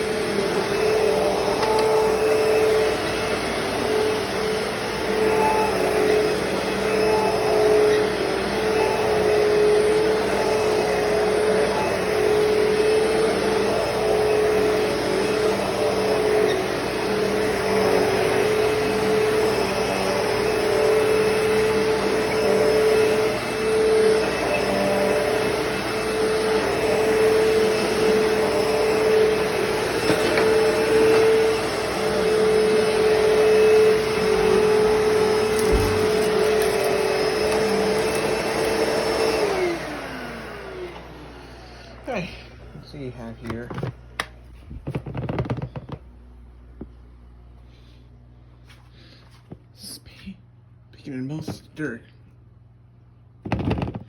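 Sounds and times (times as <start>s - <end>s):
vacuum cleaner running on carpet: 0.0s - 46.0s, 53.4s - 54.0s.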